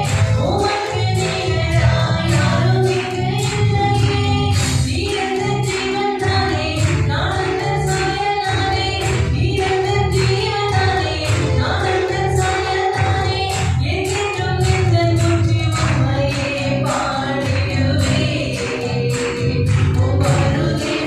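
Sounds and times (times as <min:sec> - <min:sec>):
instrumental backing with bass: 0:00.0 - 0:21.0
people singing worship song: 0:00.0 - 0:21.0
percussive beat: 0:00.0 - 0:21.0.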